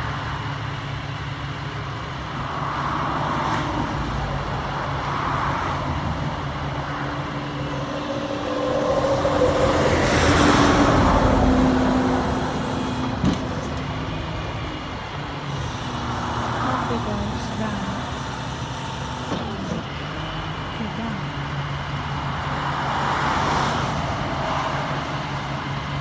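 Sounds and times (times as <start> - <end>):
passing vehicle: 0.0 - 26.0
tow truck engine and winch: 0.0 - 26.0.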